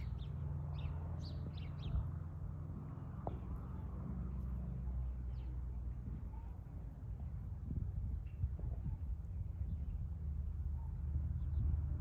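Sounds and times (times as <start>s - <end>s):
wild birds chirping: 0.0s - 7.2s, 8.2s - 12.0s
steady low rumble: 0.0s - 12.0s.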